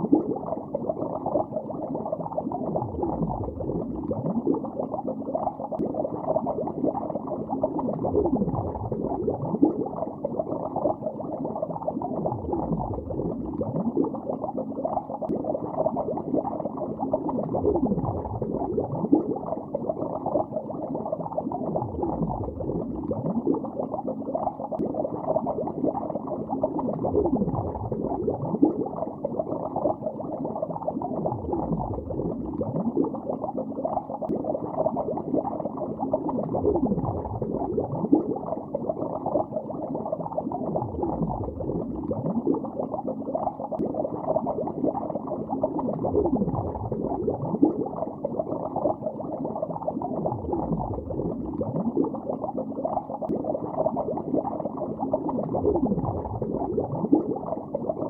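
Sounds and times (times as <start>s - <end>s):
muffled underwater bubbling: 0.0s - 58.0s.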